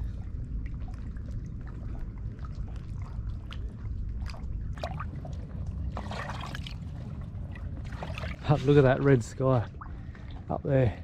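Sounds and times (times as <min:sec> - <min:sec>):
low rumble: 0:00.0 - 0:10.6
waves lapping against rocks: 0:00.8 - 0:11.0.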